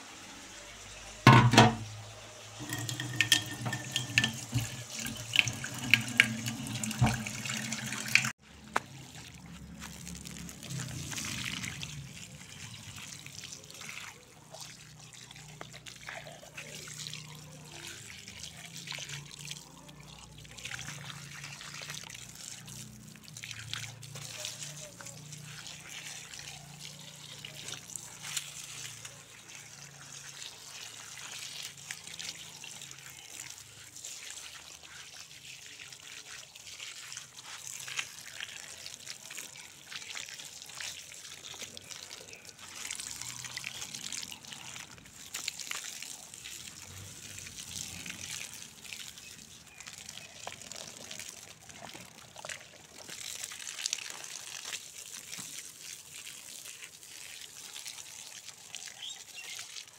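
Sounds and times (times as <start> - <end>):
water from hose splashing on soil: 0.0 - 59.9.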